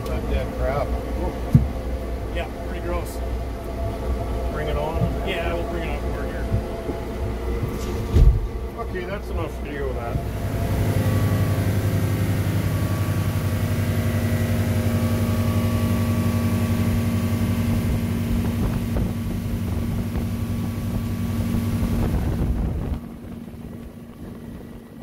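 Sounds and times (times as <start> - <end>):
outboard motor running: 0.0 - 25.0
water noise from boat hull: 0.0 - 25.0.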